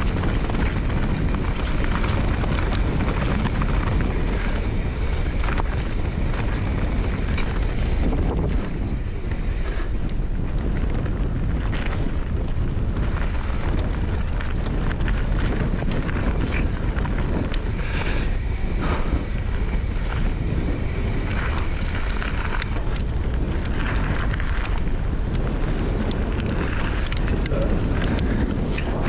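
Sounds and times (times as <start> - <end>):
bike rattling over stones: 0.0 - 29.0
tyres roaring on gravel: 0.0 - 29.0
wind buffeting microphone: 0.0 - 29.0.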